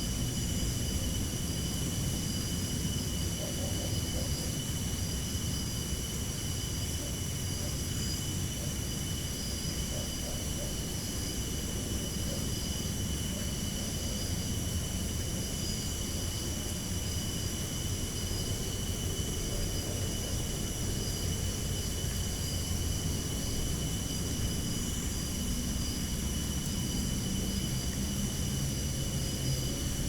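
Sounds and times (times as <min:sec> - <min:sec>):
low rumble and hiss: 0:00.0 - 0:30.0.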